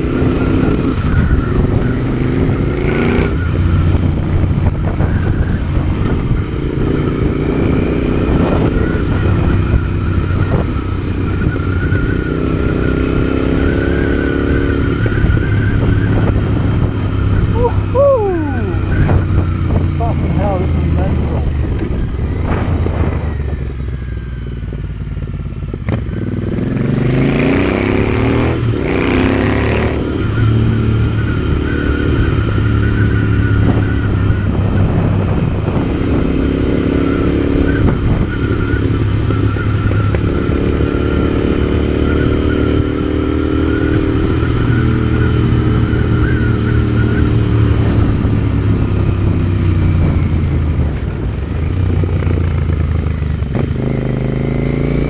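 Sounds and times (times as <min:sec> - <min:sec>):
motorcycle engine while riding: 0:00.0 - 0:55.0
wind noise: 0:00.0 - 0:55.0.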